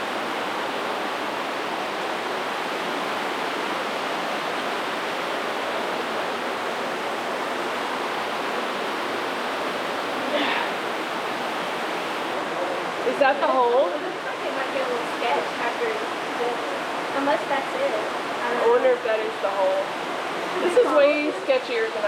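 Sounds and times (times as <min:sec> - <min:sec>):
water rushing in a cave: 0:00.0 - 0:22.0.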